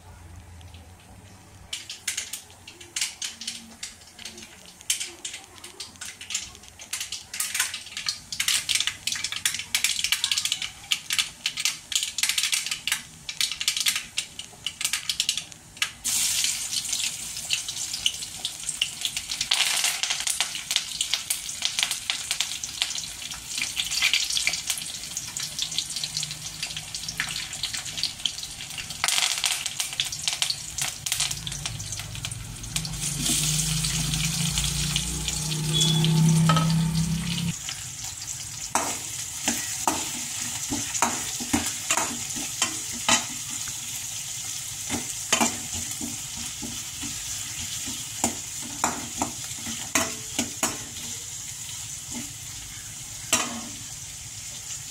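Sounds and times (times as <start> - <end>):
seeds crackling in hot oil: 0.0 - 54.9
food sizzling in oil: 1.7 - 54.9.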